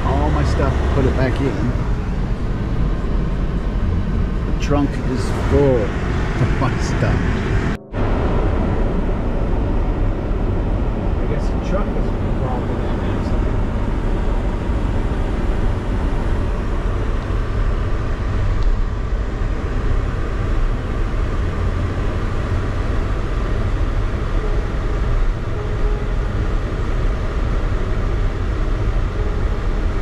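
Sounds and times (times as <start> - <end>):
road and engine noise in cabin: 0.0 - 30.0.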